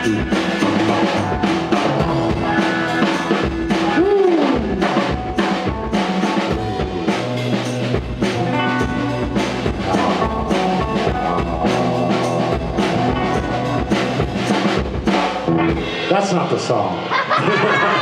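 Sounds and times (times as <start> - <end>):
drum kit beating: 0.0 - 18.0
live rock band playing: 0.0 - 18.0.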